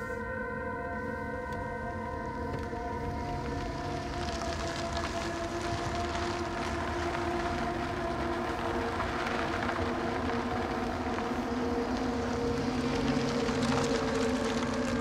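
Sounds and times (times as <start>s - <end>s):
car road and engine noise: 1.4s - 15.0s.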